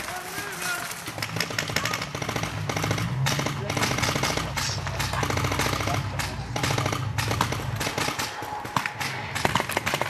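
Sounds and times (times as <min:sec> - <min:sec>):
rapid paintball marker shots: 0:00.0 - 0:10.0.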